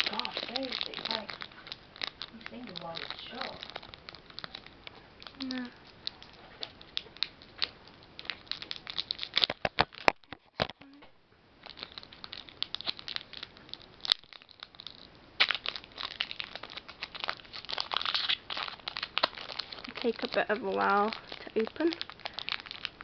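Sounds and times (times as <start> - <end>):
foil wrapper crinkling: 0.0 - 10.9, 11.6 - 23.0.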